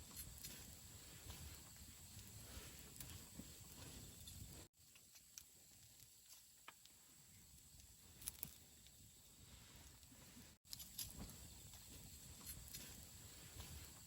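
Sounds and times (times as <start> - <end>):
campfire hissing: 0.0 - 14.0
fire crackles and pops: 0.0 - 14.0.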